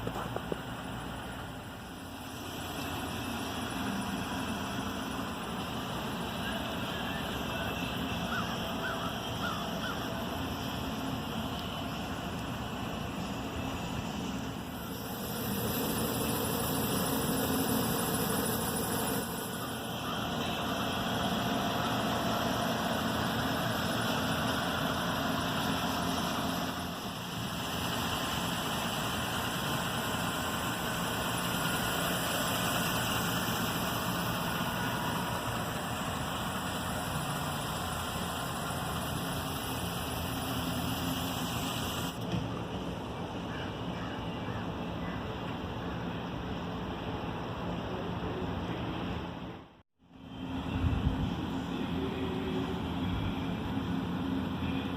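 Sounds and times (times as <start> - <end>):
pickup engine idling: 0.0 - 46.6.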